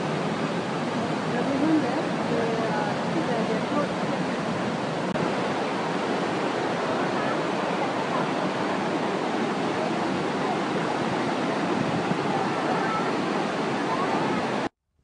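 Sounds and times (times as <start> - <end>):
waterfall and rushing rapids: 0.0 - 14.7.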